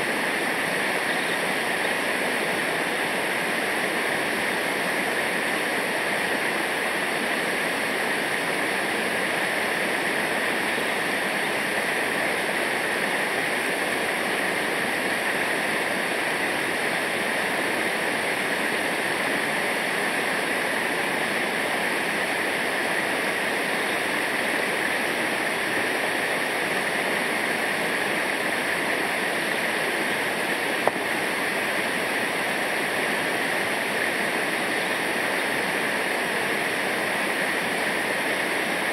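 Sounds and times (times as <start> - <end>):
rushing river water: 0.0 - 38.9.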